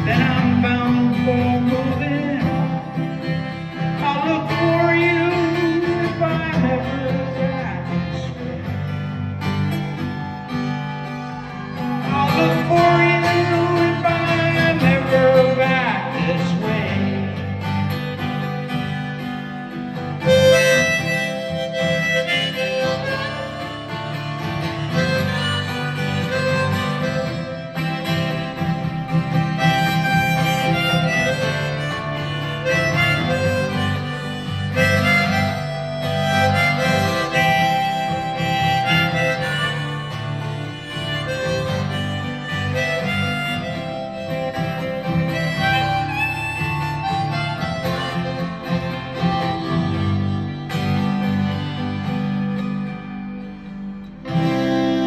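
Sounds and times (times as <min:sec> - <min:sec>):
harmonica melody: 0:00.0 - 0:55.0
strummed acoustic guitar: 0:00.0 - 0:55.0.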